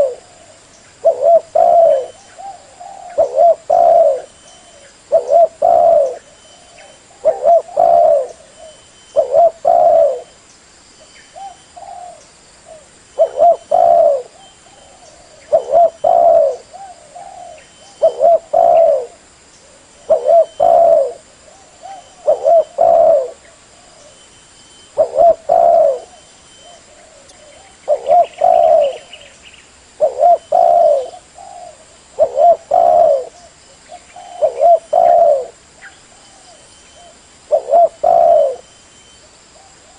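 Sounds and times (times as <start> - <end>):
dove cooing: 0.0 - 10.4, 11.3 - 24.2, 24.9 - 29.4, 30.0 - 38.7.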